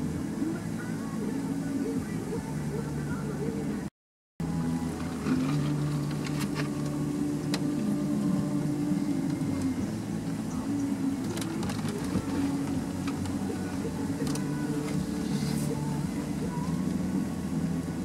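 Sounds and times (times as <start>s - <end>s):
music on a radio: 0.0s - 18.0s
steady low hum: 0.0s - 18.0s.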